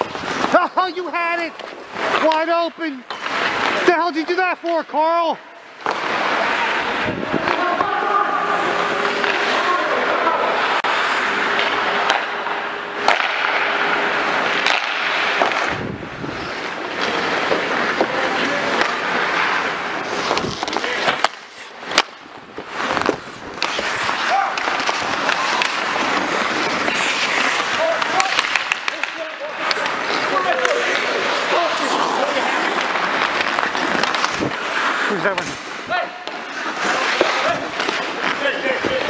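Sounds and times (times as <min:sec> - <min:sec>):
hockey sticks and puck clacking: 0:00.0 - 0:39.0
skate blades scraping ice: 0:00.0 - 0:39.0.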